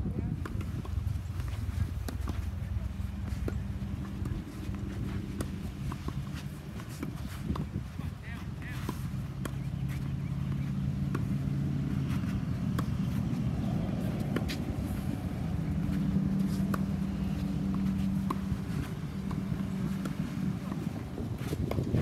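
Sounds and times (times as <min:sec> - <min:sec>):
low motor hum: 0:00.0 - 0:22.0
tennis balls bouncing on court: 0:00.1 - 0:22.0
tennis balls struck with rackets: 0:00.3 - 0:22.0.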